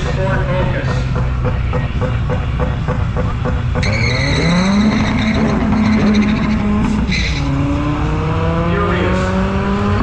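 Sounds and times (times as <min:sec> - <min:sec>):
car engine revving: 0:00.0 - 0:10.0
tires squealing: 0:00.0 - 0:10.0.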